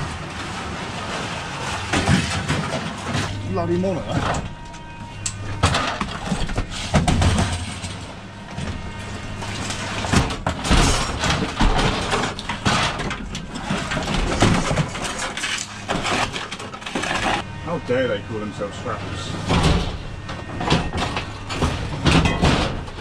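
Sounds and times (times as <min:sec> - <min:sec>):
scrap metal clattering: 0:00.0 - 0:17.5, 0:19.1 - 0:23.0.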